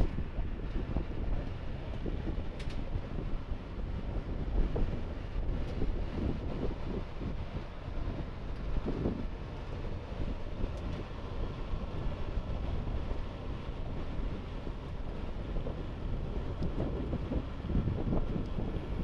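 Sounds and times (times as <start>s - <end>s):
low machinery noise: 0.0s - 19.0s
wind buffeting microphone: 0.0s - 19.0s.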